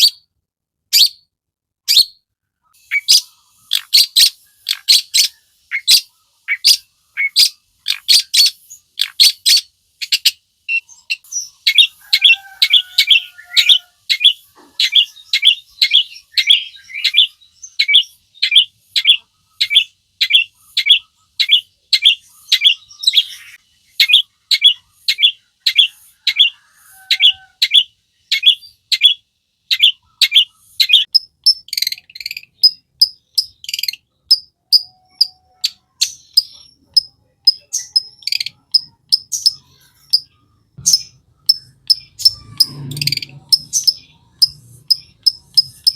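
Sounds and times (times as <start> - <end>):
bird singing repeated notes: 0.0 - 0.3, 0.9 - 45.9.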